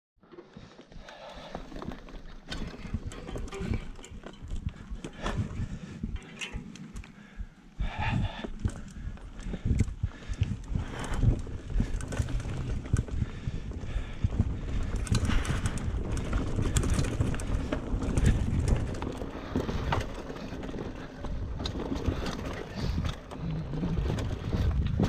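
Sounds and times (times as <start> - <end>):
bike knocking and rattling over rocks: 0.3 - 25.0
bike tyres rumbling on dirt: 0.5 - 25.0.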